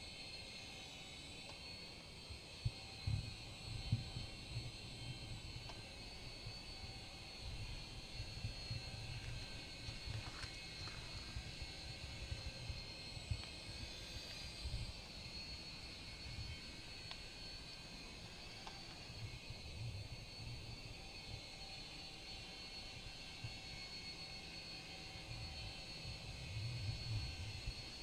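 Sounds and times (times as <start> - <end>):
toy helicopter rotor whine: 0.0 - 28.0.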